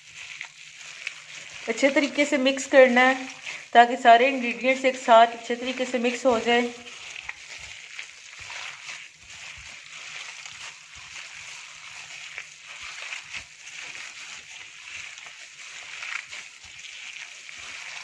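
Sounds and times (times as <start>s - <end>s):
plastic bag crinkling: 0.0s - 18.0s
wet squelching: 0.0s - 18.0s.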